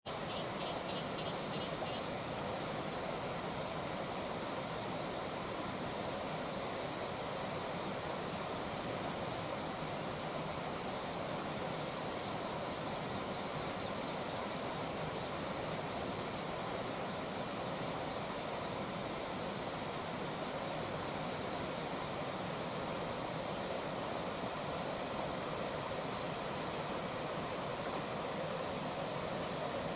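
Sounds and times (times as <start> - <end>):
creek water flowing: 0.1 - 29.9.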